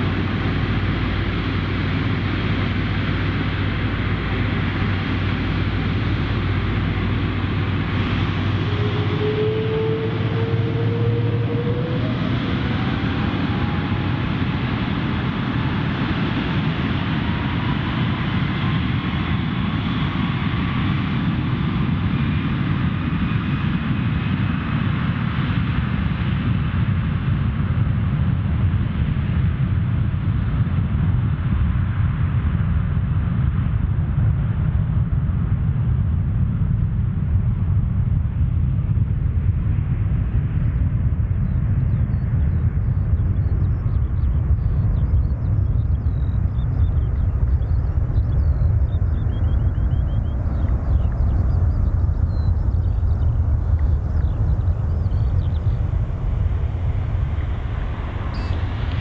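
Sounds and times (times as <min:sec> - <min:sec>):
jet engines at takeoff: 0:00.0 - 0:59.0.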